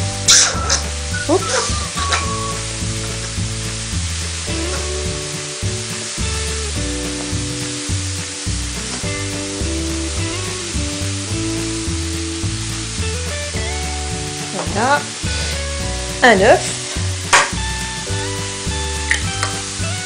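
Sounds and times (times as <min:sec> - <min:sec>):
background music: 0:00.0 - 0:20.0
food sizzling in a frying pan: 0:00.0 - 0:20.0.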